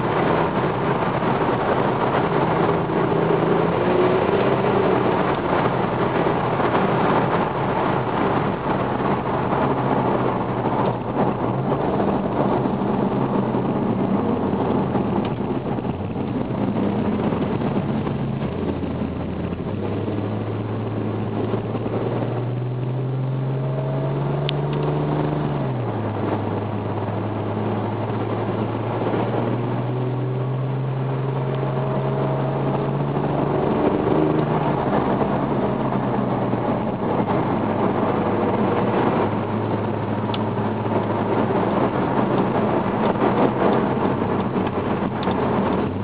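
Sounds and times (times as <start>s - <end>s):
car engine drone from inside: 0.0s - 46.0s
tyre and road noise: 0.0s - 46.0s.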